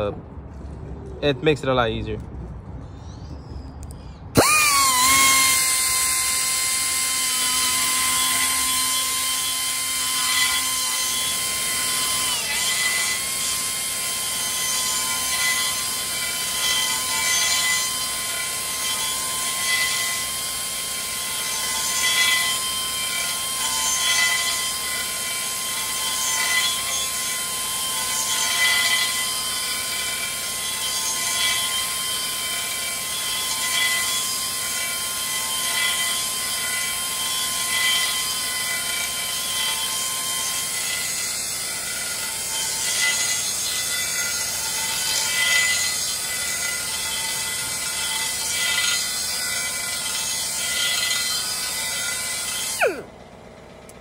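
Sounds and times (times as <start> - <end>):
sanding bit grinding metal: 4.4 - 53.1
die grinder whining: 4.4 - 54.0.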